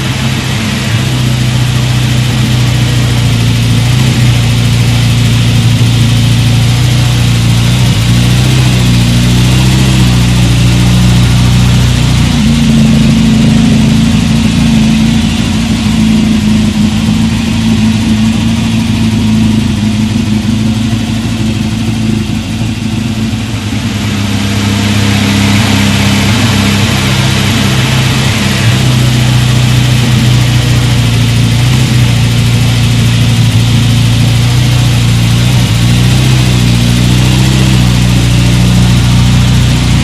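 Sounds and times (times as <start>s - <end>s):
car engine running: 0.0s - 40.0s.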